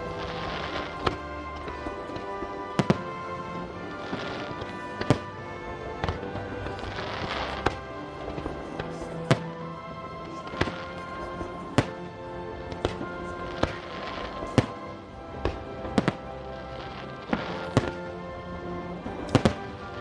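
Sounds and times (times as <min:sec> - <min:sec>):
fireworks bangs: 0:00.0 - 0:09.6, 0:10.3 - 0:12.1, 0:12.7 - 0:18.2, 0:18.9 - 0:20.0
music: 0:00.0 - 0:20.0.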